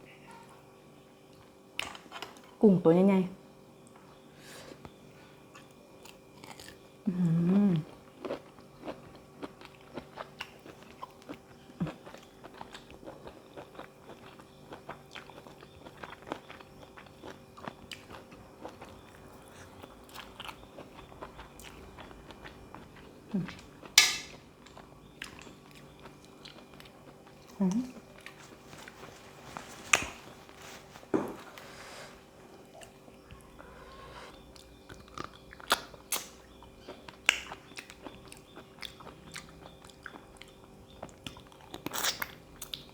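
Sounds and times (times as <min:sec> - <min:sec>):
person chewing with crunches: 0:04.7 - 0:42.9.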